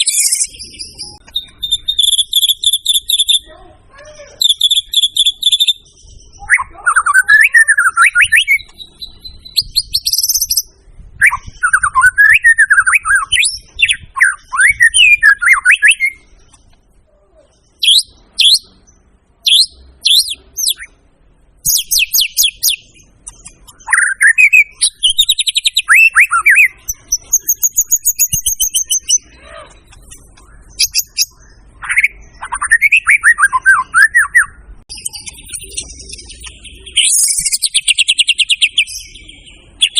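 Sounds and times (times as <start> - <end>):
songbird singing whistles and trills: 0.0 - 3.5, 4.4 - 16.8, 17.6 - 21.0, 21.6 - 39.9.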